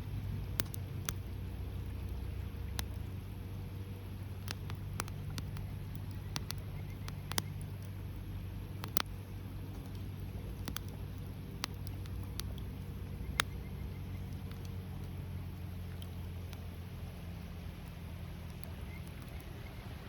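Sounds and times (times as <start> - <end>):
bonfire crackling and popping: 0.0 - 20.0
fire low rumble: 0.0 - 20.0.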